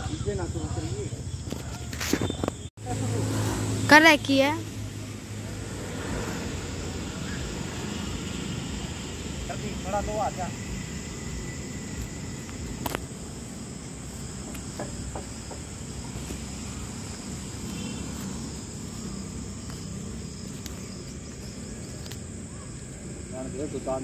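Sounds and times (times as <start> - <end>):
insect chirring: 0.0 - 3.1, 3.8 - 24.0.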